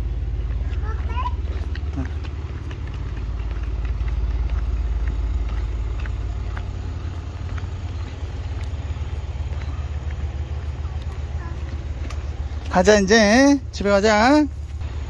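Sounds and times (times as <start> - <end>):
light footsteps on asphalt: 0.0 - 15.0
vehicle engine idling: 0.0 - 15.0.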